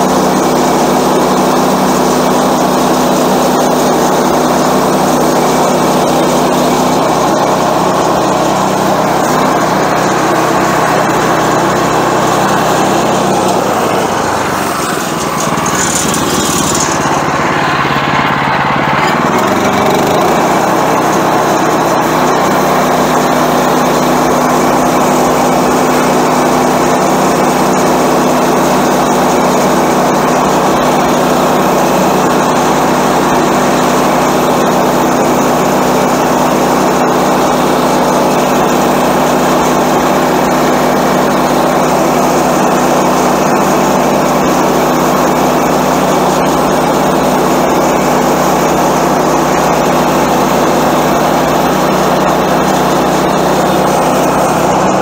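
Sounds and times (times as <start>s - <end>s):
band saw cutting log: 0.0s - 55.0s
small gasoline engine running: 0.0s - 55.0s.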